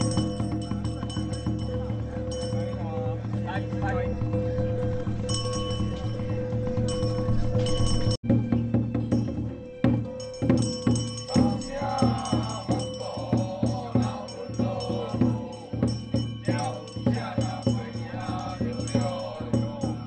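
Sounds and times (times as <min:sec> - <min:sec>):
chant-like wavering melody: 0:00.0 - 0:20.0.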